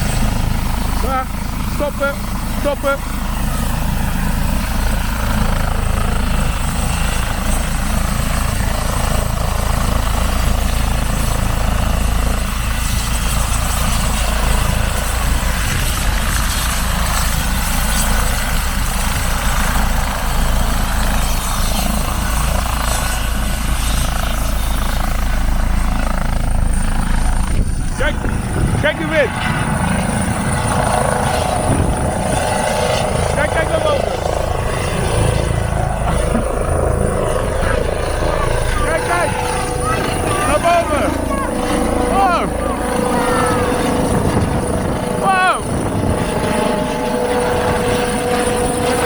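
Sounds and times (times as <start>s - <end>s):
helicopter rotor and engine: 0.0s - 49.0s.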